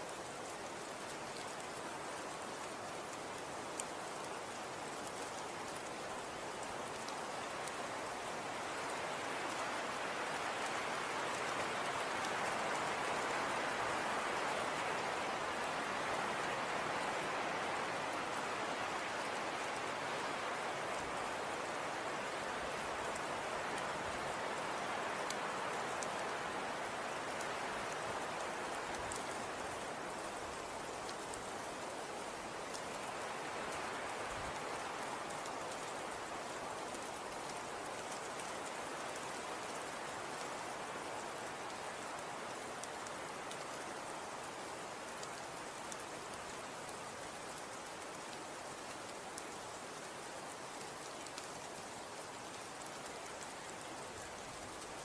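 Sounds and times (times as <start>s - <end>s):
snow pattering on surfaces: 0.0s - 55.0s.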